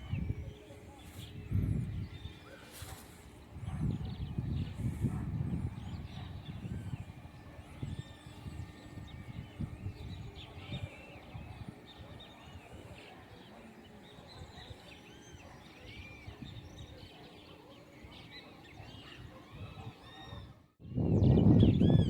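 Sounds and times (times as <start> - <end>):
birds chirping in chorus: 0.0 - 22.0.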